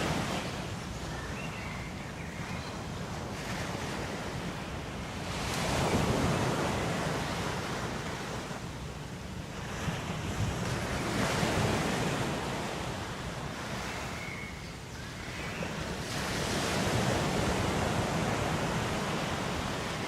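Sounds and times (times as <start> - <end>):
ocean waves washing onto shore: 0.0 - 20.0.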